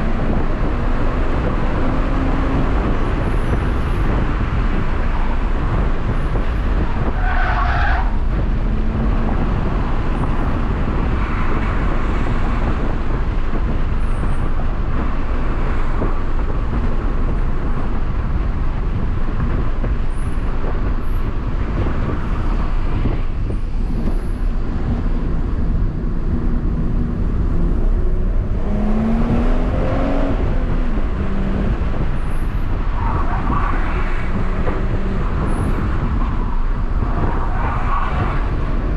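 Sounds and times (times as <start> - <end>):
car engine pulling hard: 0.0 - 38.9
road and tyre noise: 0.0 - 38.9.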